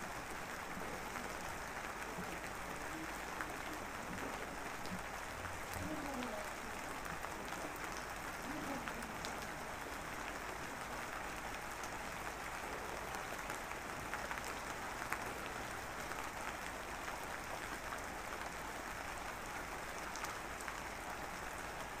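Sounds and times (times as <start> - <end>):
rain-like hiss: 0.0 - 22.0.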